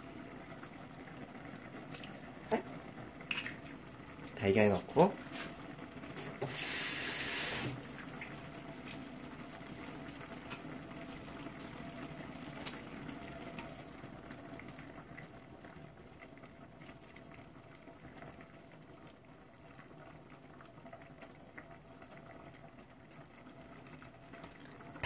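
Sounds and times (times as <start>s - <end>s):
broth bubbling in a pot: 0.0s - 25.0s.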